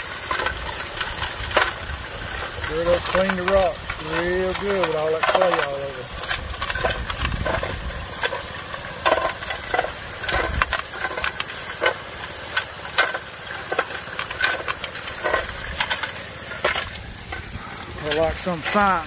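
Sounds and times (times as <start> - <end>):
rocks clattering in turning drum: 0.0 - 19.0.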